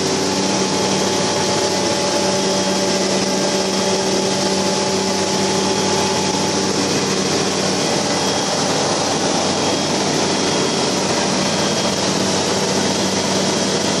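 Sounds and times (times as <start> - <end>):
aircraft engine droning: 0.0 - 14.0.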